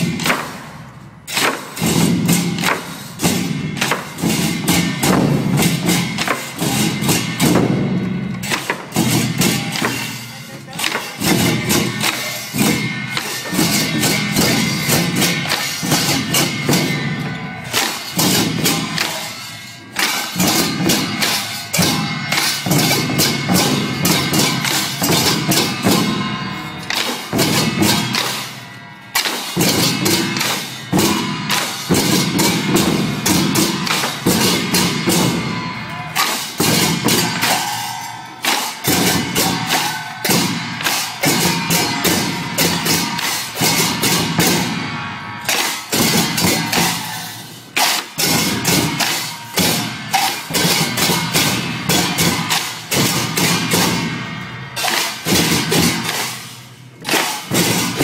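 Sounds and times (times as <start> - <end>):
barrel drums beating: 0.0 - 58.0
hand cymbals clashing: 0.0 - 58.0.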